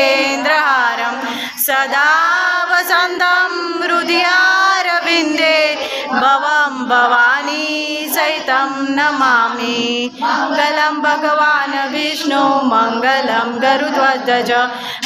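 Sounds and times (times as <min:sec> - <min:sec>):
woman singing a devotional hymn: 0:00.0 - 0:15.0.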